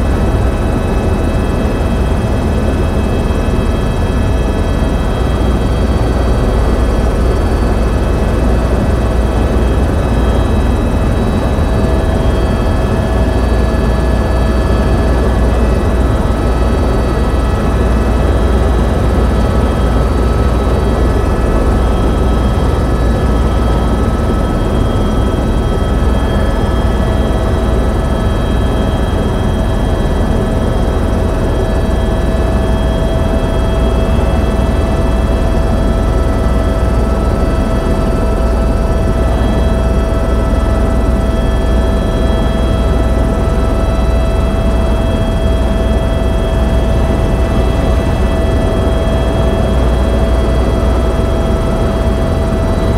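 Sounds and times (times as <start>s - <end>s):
helicopter cabin drone: 0.0s - 52.9s
steady whining tones: 0.0s - 52.9s.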